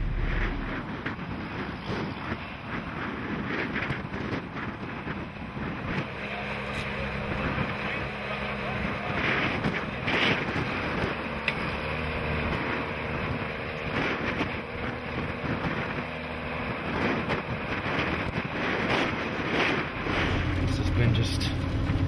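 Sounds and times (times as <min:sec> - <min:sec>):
tractor diesel engine running: 0:00.0 - 0:03.3, 0:04.9 - 0:22.0
wind buffeting microphone: 0:00.0 - 0:22.0.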